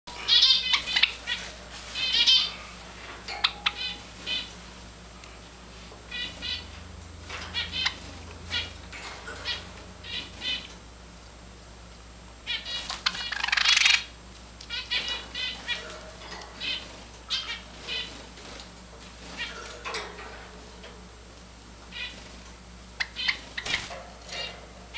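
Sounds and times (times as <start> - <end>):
sparrows chipping: 0.1 - 4.7, 6.1 - 10.9, 12.4 - 20.9, 21.8 - 24.9.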